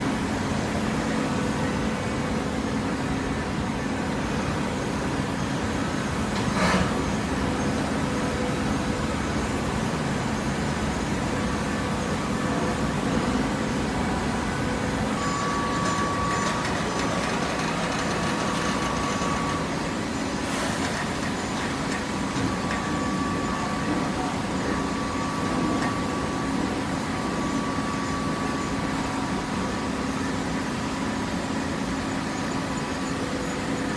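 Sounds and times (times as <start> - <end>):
thin machine whine: 0.1 - 33.9
baler machine hum: 4.8 - 33.9.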